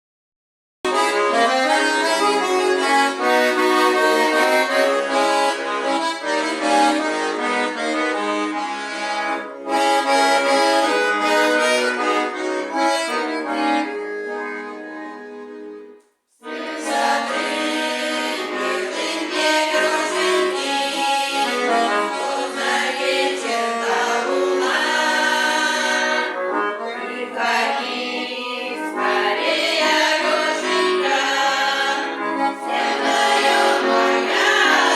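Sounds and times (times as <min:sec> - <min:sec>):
accordion folk music: 0:00.9 - 0:34.9.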